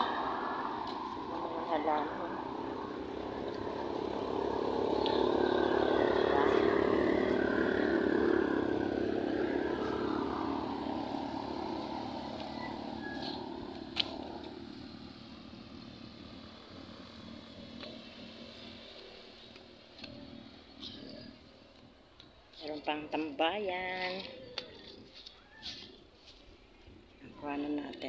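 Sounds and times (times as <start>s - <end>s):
vehicle passing: 0.0s - 28.0s.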